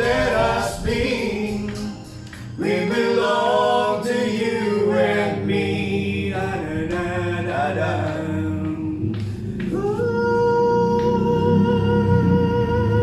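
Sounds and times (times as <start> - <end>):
backing music: 0.0 - 13.0
voices singing in harmony: 0.0 - 13.0.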